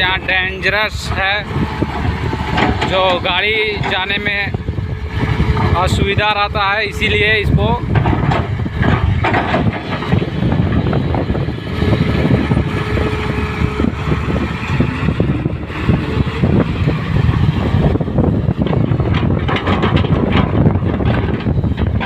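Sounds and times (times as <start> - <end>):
excavator diesel engine running: 0.0 - 22.0
clanks and knocks: 1.0 - 22.0.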